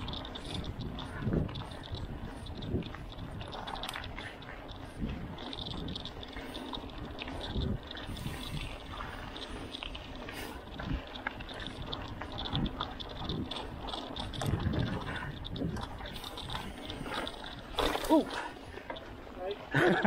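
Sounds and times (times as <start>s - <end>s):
wind on microphone: 0.0s - 18.8s
bike rattling over bumps: 0.0s - 20.0s
tyres crunching on dirt: 0.0s - 20.0s.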